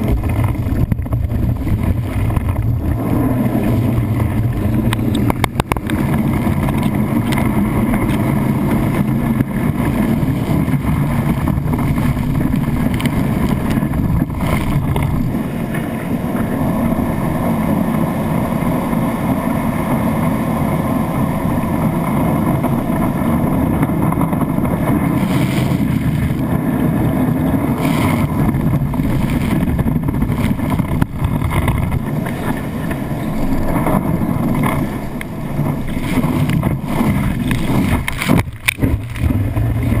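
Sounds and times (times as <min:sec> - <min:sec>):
water rushing past wakeboard: 0:00.0 - 0:40.0
wind on microphone: 0:00.0 - 0:40.0.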